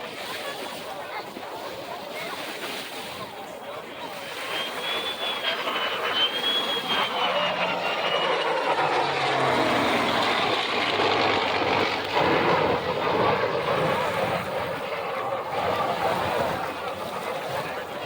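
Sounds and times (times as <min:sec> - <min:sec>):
jet engine flying past: 0:02.2 - 0:18.0
piston engine aircraft flying past: 0:02.7 - 0:18.0.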